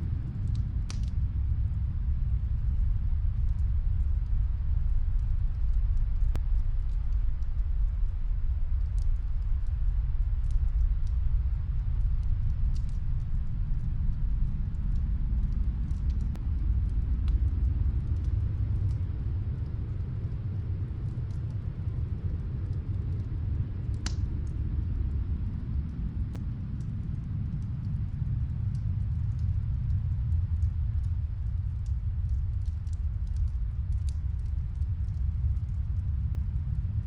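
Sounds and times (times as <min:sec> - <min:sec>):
muffled wood fire crackling: 0:00.0 - 0:37.0
snowstorm wind rumbling: 0:00.0 - 0:37.0.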